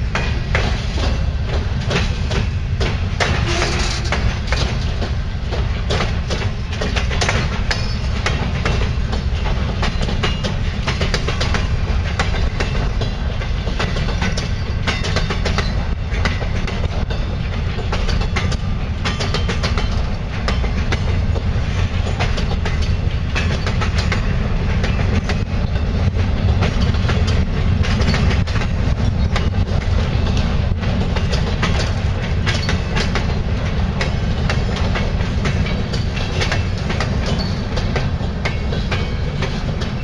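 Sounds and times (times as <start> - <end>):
freight train wheels rumbling: 0.0 - 40.0
wheels clacking on rail joints: 0.0 - 40.0.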